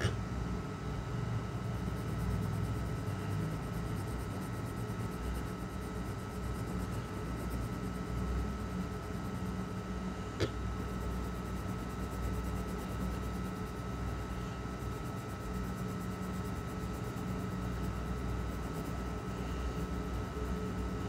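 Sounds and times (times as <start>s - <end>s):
hum and hiss: 0.0s - 21.0s.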